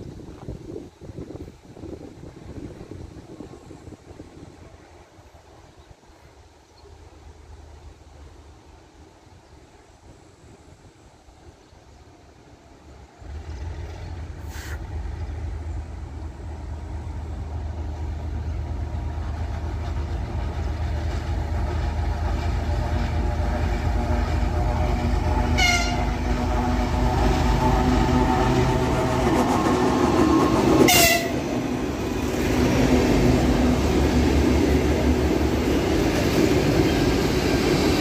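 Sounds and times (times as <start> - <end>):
diesel locomotive engine drone: 0.0 - 38.0.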